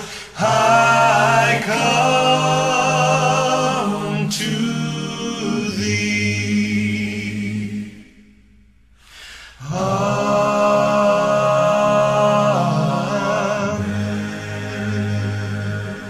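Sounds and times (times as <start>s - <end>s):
men's choir singing: 0.0s - 8.3s, 9.6s - 16.0s.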